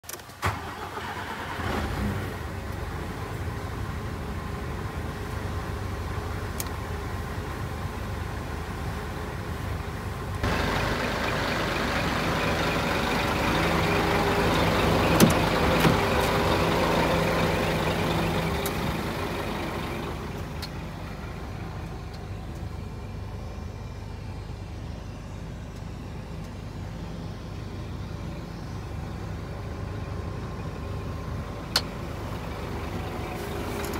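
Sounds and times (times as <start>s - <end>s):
diesel truck engine running: 0.4s - 33.9s.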